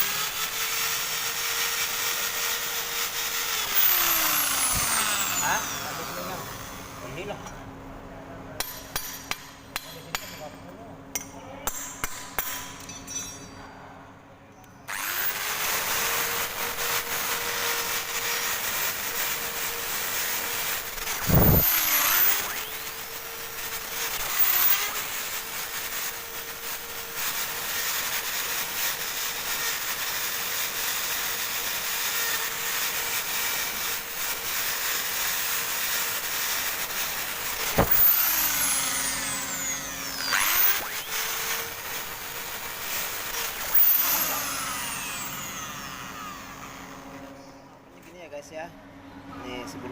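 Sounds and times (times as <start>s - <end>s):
drill with wire brush on metal: 0.0s - 7.5s, 14.9s - 47.4s.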